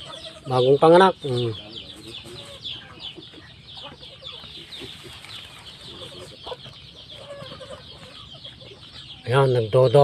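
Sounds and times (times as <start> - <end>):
birds chirping: 0.0 - 10.0
faint lower bird calls: 0.0 - 10.0.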